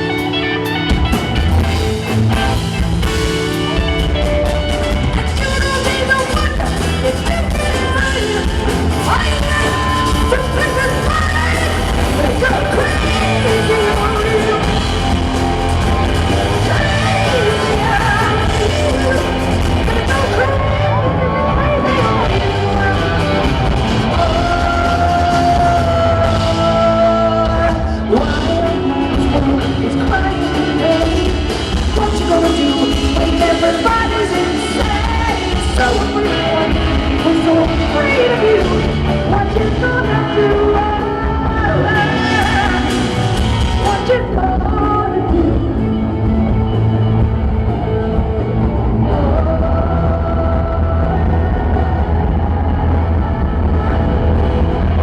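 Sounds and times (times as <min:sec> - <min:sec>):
live rock band: 0:00.0 - 0:55.0
person singing: 0:00.0 - 0:55.0.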